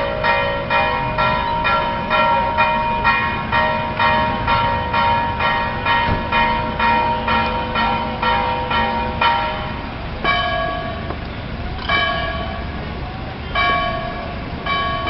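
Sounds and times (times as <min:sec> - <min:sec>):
church bell ringing: 0:00.0 - 0:15.0.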